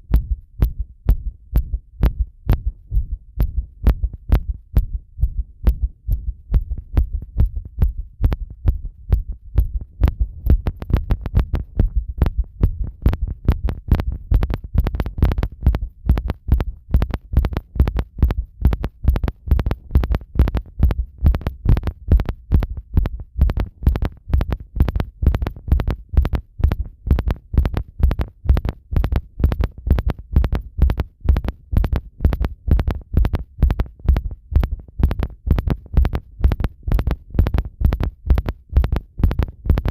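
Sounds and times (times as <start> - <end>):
heartbeat thumps: 0.0 - 39.9
low hum: 0.0 - 39.9.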